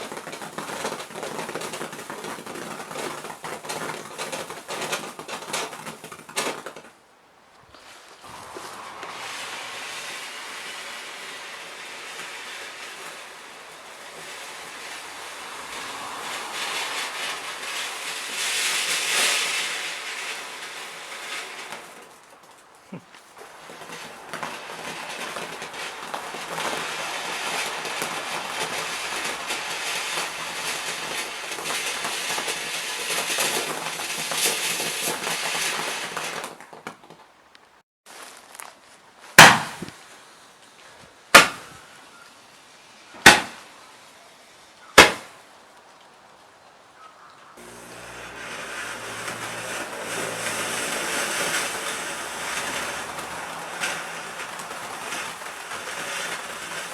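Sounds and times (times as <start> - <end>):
firework fountain hissing and crackling: 0.0 - 46.2, 47.6 - 56.9.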